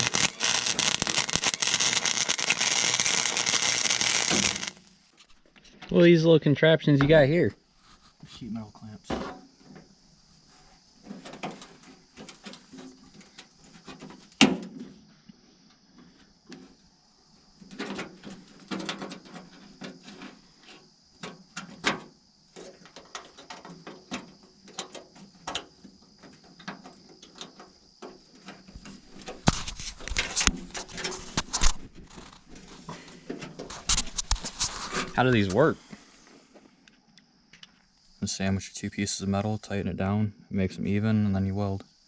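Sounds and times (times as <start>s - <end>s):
steady high hiss: 0.0s - 42.0s.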